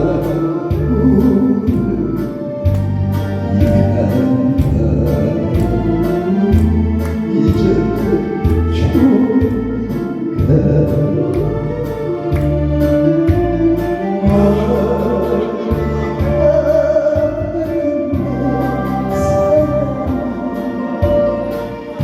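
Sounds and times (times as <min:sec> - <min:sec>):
person singing slow song: 0:00.0 - 0:22.0
steady drum beat: 0:00.0 - 0:22.0
sustained bass notes: 0:00.0 - 0:22.0.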